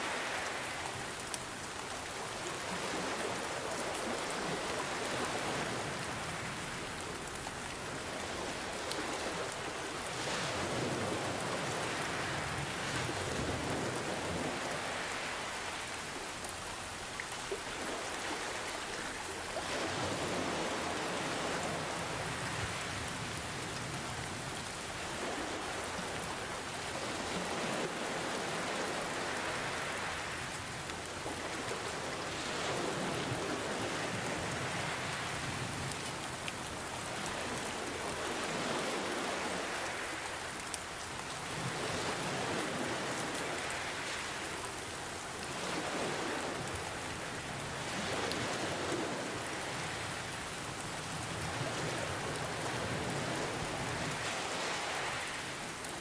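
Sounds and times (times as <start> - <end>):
ocean waves washing in: 0.0 - 56.0
steady rain hissing: 0.0 - 56.0.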